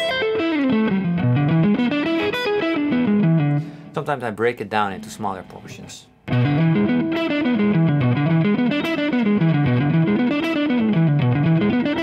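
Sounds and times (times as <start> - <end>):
electric guitar arpeggio: 0.0 - 12.0.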